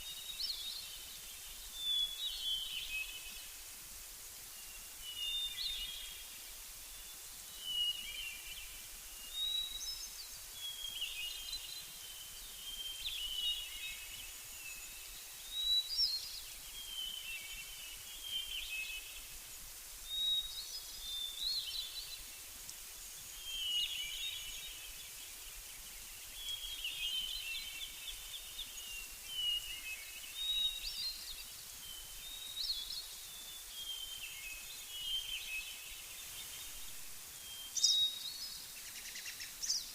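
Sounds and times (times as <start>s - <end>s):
songbirds chirping: 0.0s - 39.9s
steady background hiss: 0.0s - 39.9s.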